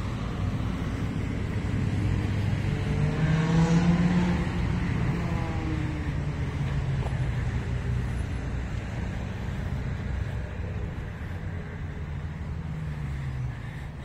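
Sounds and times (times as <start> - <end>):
low engine drone: 0.0 - 14.0
road traffic hum: 0.0 - 14.0.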